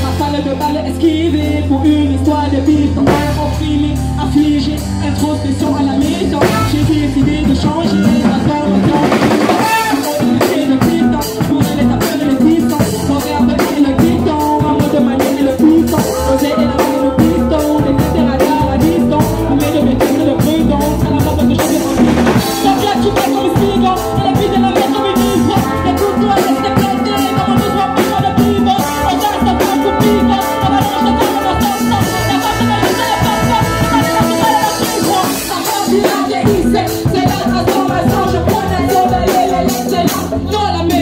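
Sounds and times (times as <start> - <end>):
congas: 0.0 - 41.0
drum kit: 0.0 - 41.0
voices singing with band: 0.0 - 41.0
trumpet and trombone: 2.9 - 3.9, 6.2 - 40.5.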